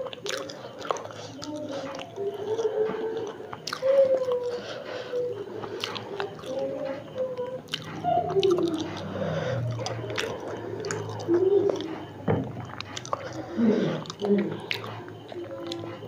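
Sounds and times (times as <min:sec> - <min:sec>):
close-up chewing: 0:00.0 - 0:16.0.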